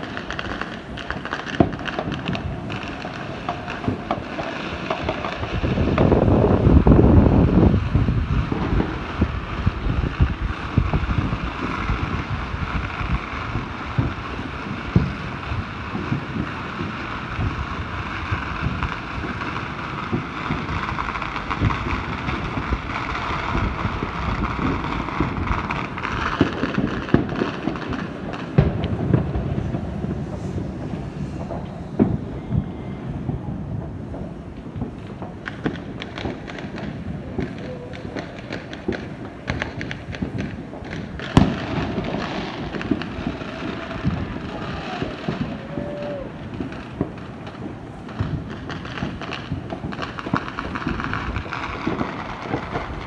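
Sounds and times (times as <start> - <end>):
distant fireworks pops and bangs: 0.0 - 53.0.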